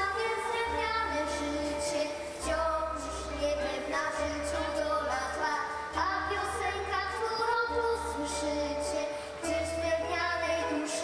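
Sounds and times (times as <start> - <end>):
girls singing duet: 0.0 - 11.0.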